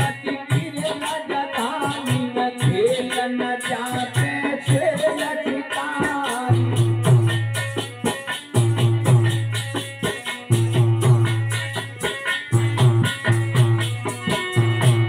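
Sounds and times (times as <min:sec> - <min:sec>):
drum beat: 0:00.0 - 0:15.0
harmonium melody: 0:00.0 - 0:15.0
jingling percussion: 0:00.0 - 0:15.0.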